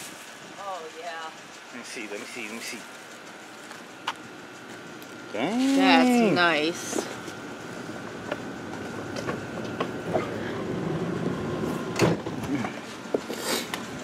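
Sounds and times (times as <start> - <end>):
faint steady rumble: 0.0 - 14.0.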